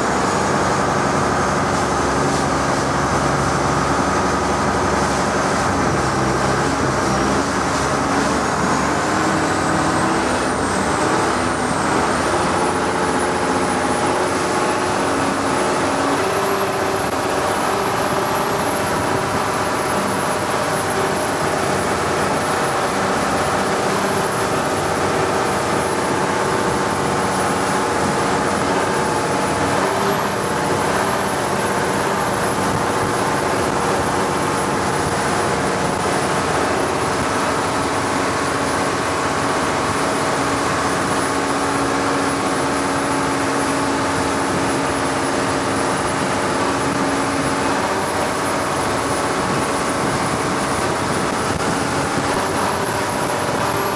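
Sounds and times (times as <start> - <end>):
boat engine drone: 0.0 - 53.9
rushing wind and water: 0.0 - 53.9.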